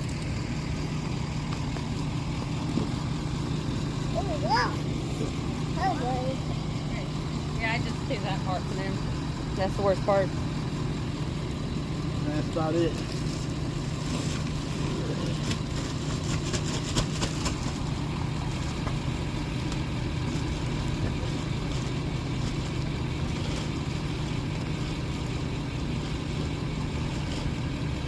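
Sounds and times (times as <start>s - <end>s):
vehicle engine idling: 0.0s - 28.0s.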